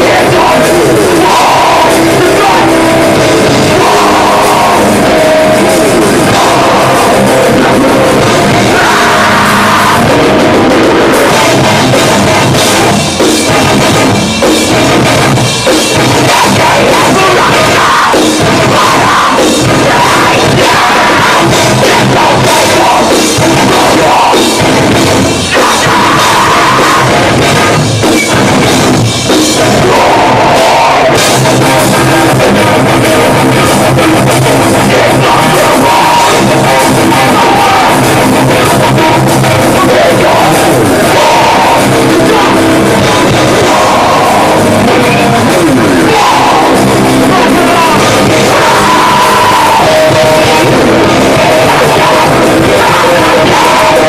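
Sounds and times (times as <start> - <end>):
distorted electric guitars: 0.0 - 54.0
pounding drum kit: 0.0 - 54.0.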